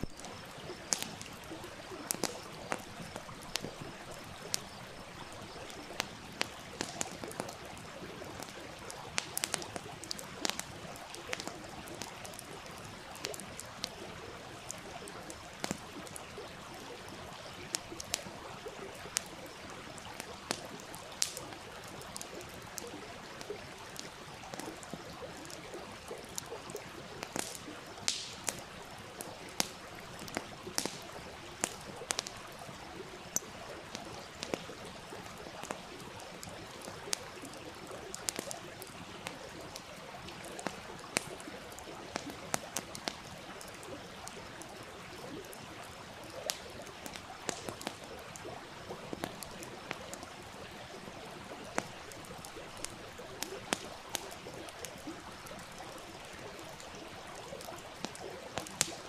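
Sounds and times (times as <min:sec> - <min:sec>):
campfire crackling and popping: 0:00.0 - 0:59.0
stream flowing: 0:00.0 - 0:59.0.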